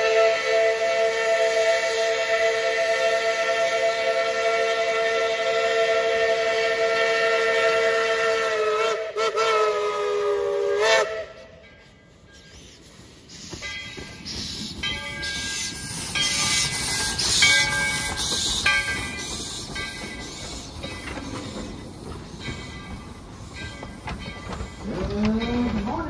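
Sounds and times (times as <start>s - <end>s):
steam locomotive chuffing: 0.0s - 26.0s
steam hissing: 0.7s - 25.1s.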